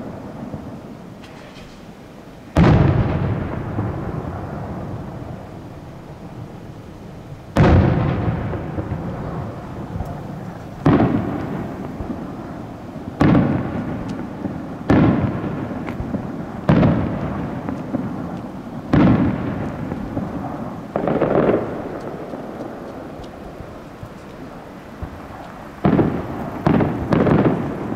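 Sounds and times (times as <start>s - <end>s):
firework shells booming: 0.0s - 27.9s.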